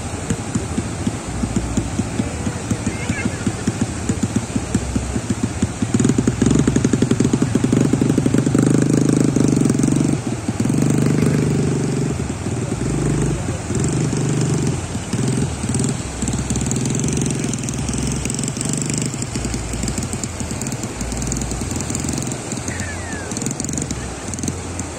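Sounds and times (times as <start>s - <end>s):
outboard motor idling: 0.0s - 24.9s
small waves breaking: 0.0s - 24.9s.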